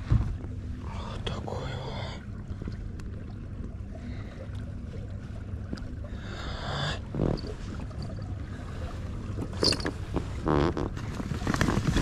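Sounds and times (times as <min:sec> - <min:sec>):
low rumble of wind and water: 0:00.0 - 0:12.0.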